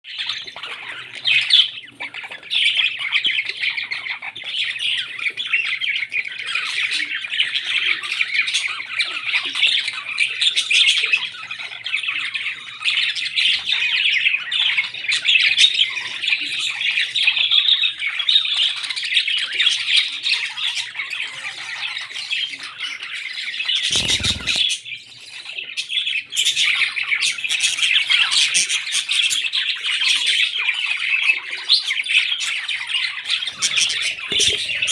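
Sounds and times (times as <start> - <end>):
parrots chattering and squawking: 0.1 - 34.9.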